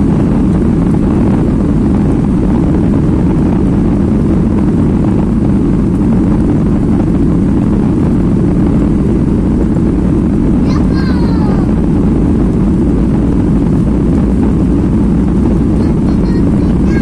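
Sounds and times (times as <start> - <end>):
jet engine rumble in cabin: 0.0 - 17.0.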